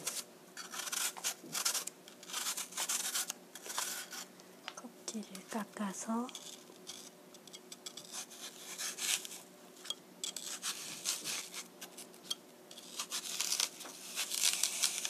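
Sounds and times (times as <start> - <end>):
knife paring an apple: 0.0 - 4.3, 6.2 - 15.0.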